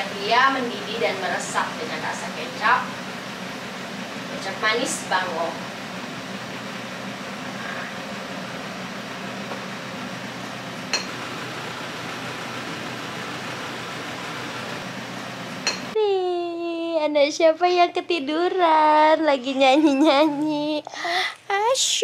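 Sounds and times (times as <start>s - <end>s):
fan humming: 0.0s - 22.0s.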